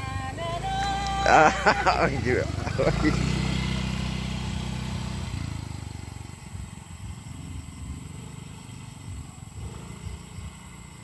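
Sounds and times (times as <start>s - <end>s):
scooter engine passing: 0.0s - 11.0s.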